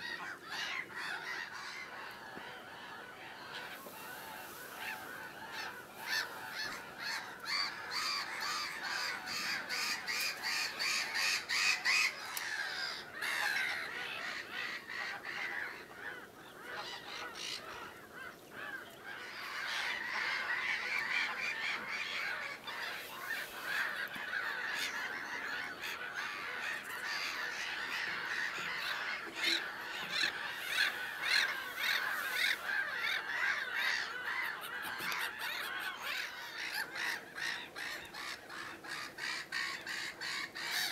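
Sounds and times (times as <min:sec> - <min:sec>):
waterbirds calling: 0:00.0 - 0:40.9.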